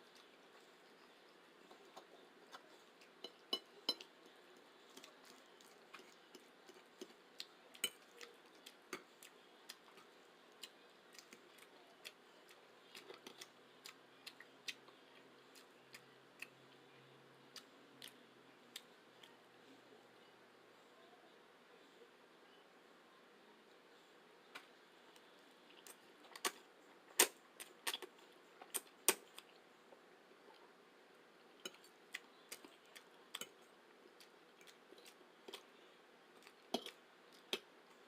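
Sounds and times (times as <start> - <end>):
chewing spaghetti: 0.0 - 19.4, 25.0 - 38.0.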